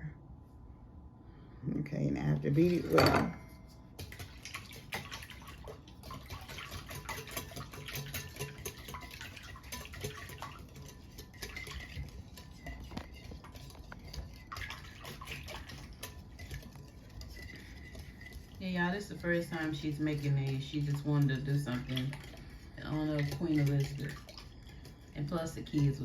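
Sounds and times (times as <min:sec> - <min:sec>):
whisk beating liquid in bowl: 0:02.7 - 0:26.0.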